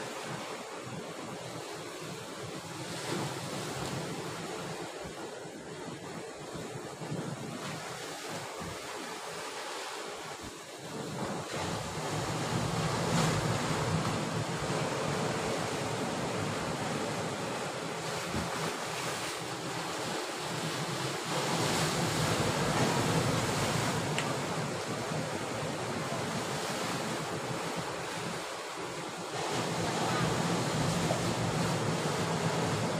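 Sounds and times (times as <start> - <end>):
surf washing against rocks: 1.6 - 32.9.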